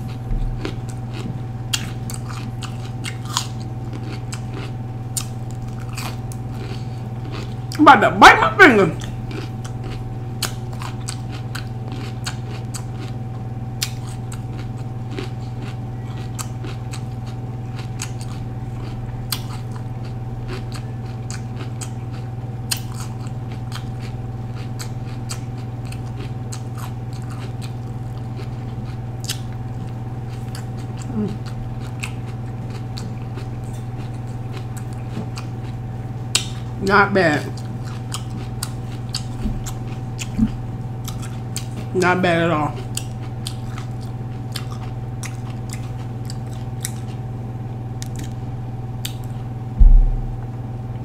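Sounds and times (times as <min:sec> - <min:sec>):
chewing raw pepper: 0:00.0 - 0:07.8, 0:08.4 - 0:50.2
steady low hum: 0:00.0 - 0:51.0.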